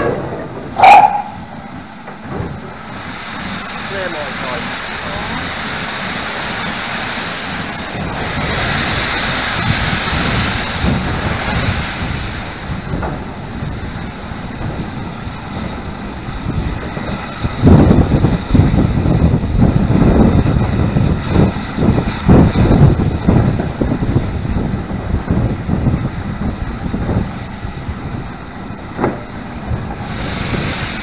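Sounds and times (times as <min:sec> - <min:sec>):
steam hissing from locomotive: 0:00.0 - 0:31.0
wind buffeting microphone: 0:00.0 - 0:31.0.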